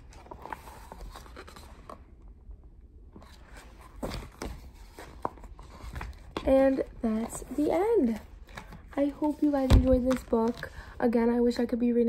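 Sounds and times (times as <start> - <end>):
book rustling: 0.0 - 2.0, 3.2 - 10.9.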